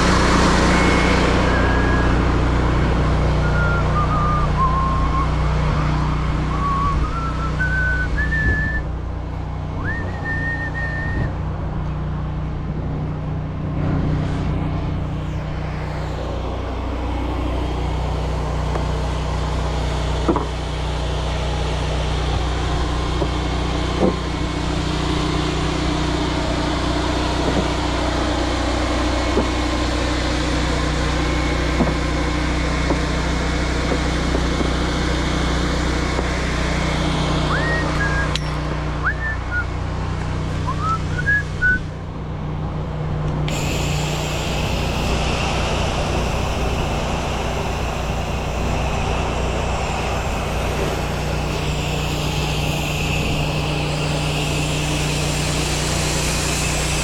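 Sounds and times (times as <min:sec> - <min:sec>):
pressure washer running: 0:00.0 - 0:57.0.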